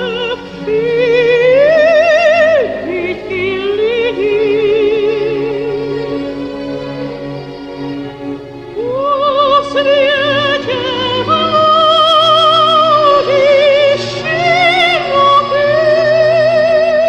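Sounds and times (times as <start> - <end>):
operatic voice singing: 0.0 - 6.8, 8.7 - 17.0.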